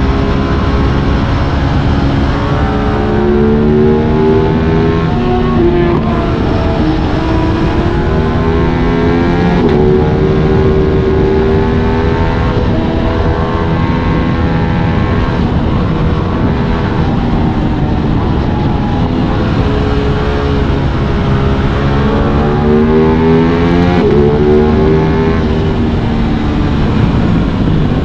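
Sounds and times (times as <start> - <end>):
motorcycle engine cruising: 0.0 - 28.0
wind rushing over microphone: 0.0 - 28.0.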